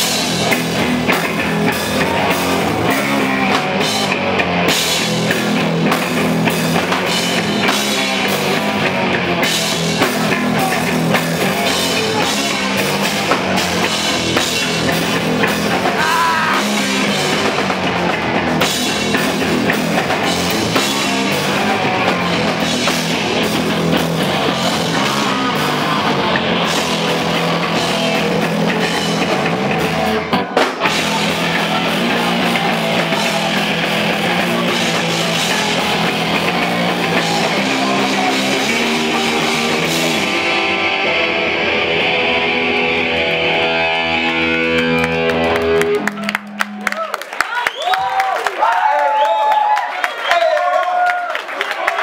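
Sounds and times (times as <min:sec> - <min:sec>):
electric guitar playing alone: 0:00.0 - 0:46.9
punk band playing live: 0:00.0 - 0:48.8.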